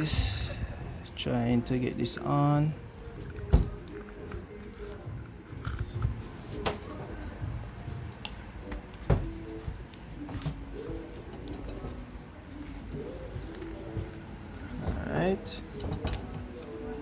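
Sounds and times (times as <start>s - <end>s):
parts rustling and tapping: 2.4s - 7.5s, 8.1s - 16.9s.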